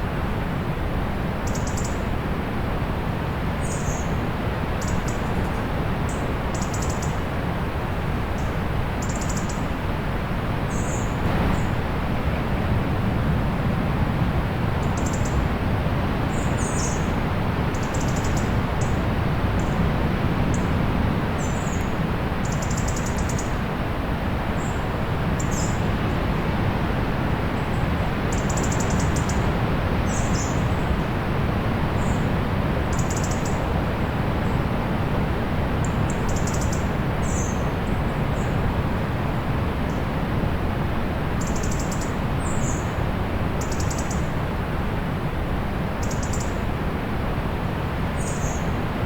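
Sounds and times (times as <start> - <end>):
distant sea surf: 7.2 - 49.0.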